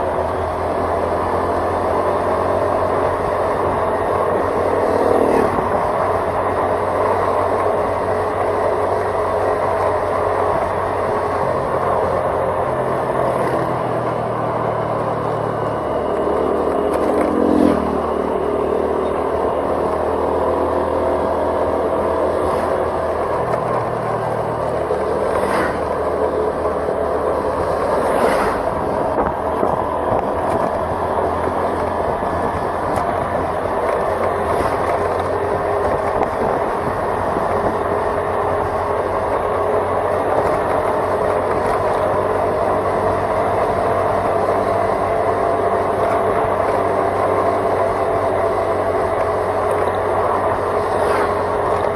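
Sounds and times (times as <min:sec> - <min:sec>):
road and wind noise: 0:00.0 - 0:51.9
vehicle engine running: 0:00.0 - 0:51.9.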